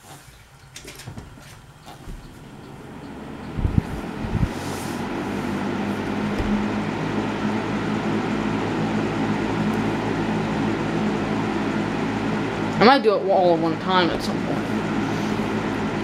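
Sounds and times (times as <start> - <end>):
box fan motor hum and air rush: 0.0 - 16.0.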